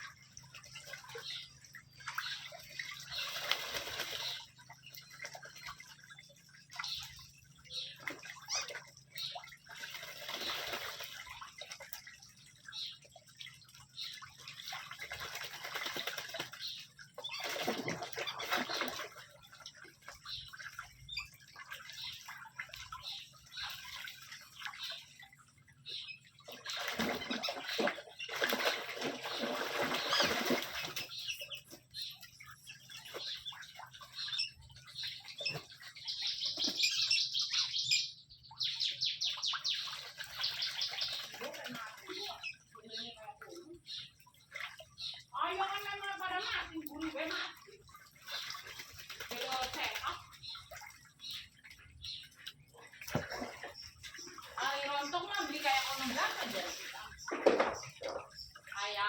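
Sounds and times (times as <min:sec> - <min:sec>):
ducks splashing in water: 0:00.0 - 0:59.0.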